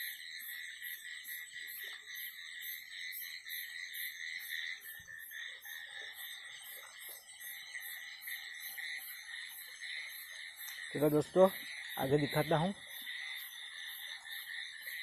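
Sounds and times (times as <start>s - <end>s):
frogs chirping: 0.0s - 15.0s
insects trilling: 0.0s - 15.0s.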